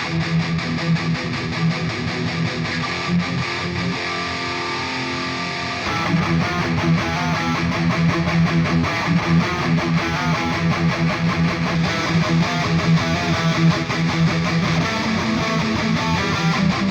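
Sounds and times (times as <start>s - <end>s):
distorted electric guitar riff: 0.0s - 16.9s.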